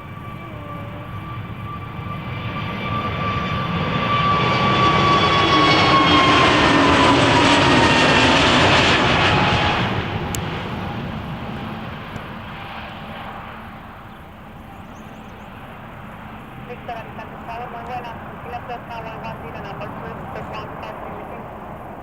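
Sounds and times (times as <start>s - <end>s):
jet engine whine dropping in pitch: 0.0s - 22.0s
jet engines passing by: 0.0s - 22.0s.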